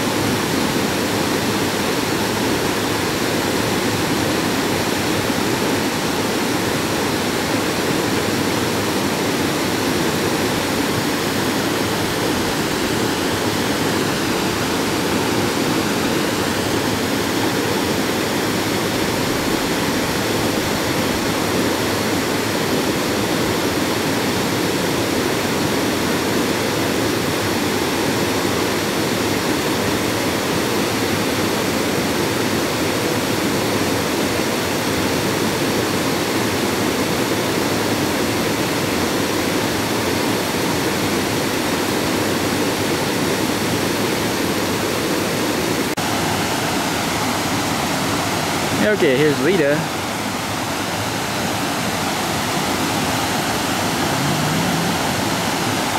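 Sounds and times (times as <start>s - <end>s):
water rushing over cascades: 0.0s - 55.9s.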